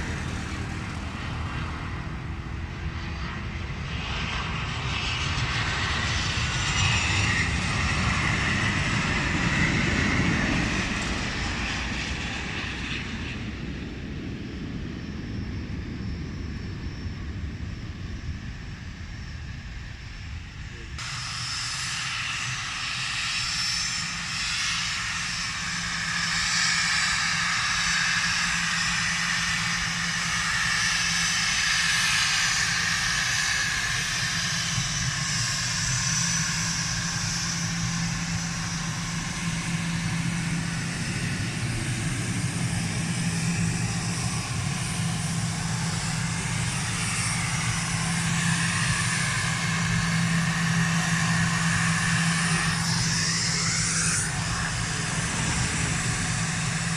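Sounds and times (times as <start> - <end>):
airliner engines humming and whining: 0.0 - 56.9.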